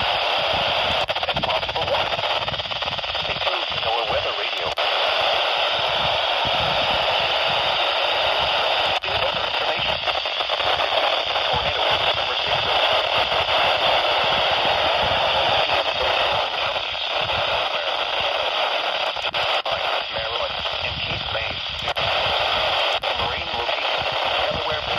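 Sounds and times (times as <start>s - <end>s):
radio static hiss: 0.0s - 24.9s.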